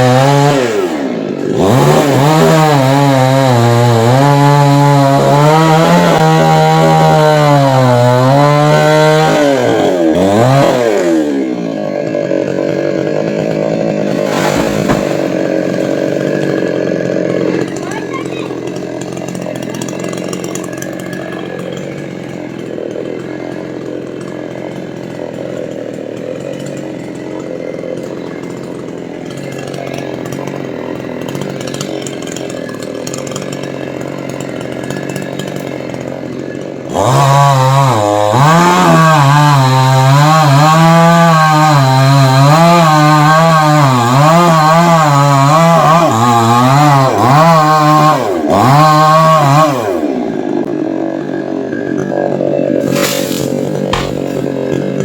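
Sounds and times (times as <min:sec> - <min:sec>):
chainsaw cutting through tree trunk: 0:00.0 - 0:55.0.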